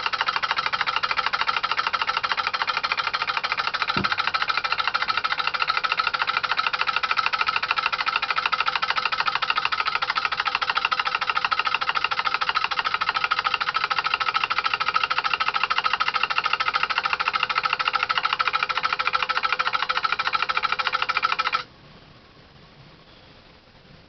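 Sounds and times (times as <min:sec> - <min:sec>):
electric motor running: 0:00.0 - 0:21.6
relays clattering rapidly: 0:00.0 - 0:21.6.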